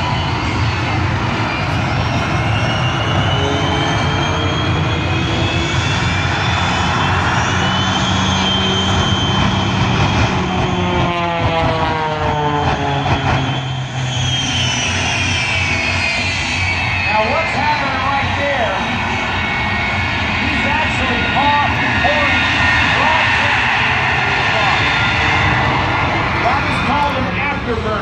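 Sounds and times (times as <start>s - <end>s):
airplane engine: 0.0s - 28.0s
jet engines with afterburner: 0.0s - 28.0s.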